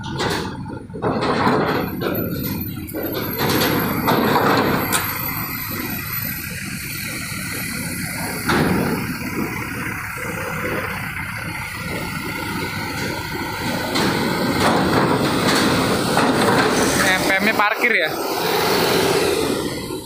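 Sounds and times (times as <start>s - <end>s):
truck engines running: 0.0s - 20.0s.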